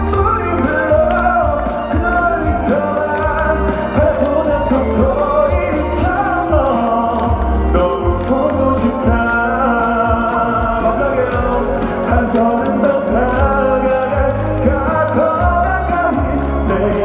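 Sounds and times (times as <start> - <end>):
bass: 0.0 - 17.0
man singing: 0.0 - 17.0
steady drum beat: 0.0 - 17.0.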